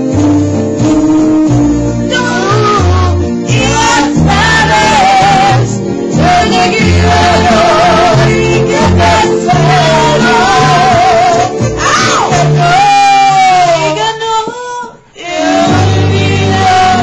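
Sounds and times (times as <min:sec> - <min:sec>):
accompanying music with bass line: 0:00.0 - 0:13.9, 0:15.3 - 0:17.0
woman singing into microphone: 0:02.1 - 0:17.0.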